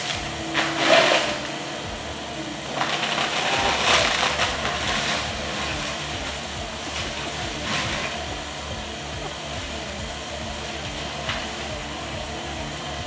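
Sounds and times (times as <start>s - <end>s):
mulcher grinding brush: 0.0s - 13.0s.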